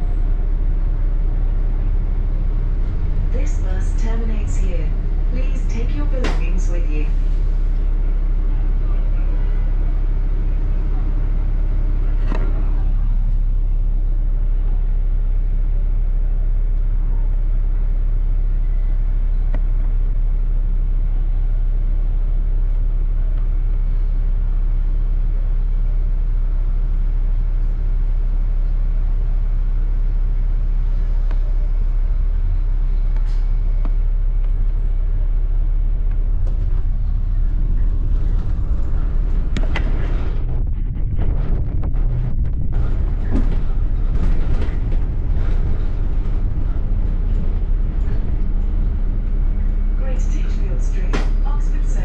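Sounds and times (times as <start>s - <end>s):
bus engine and road rumble: 0.0s - 52.0s.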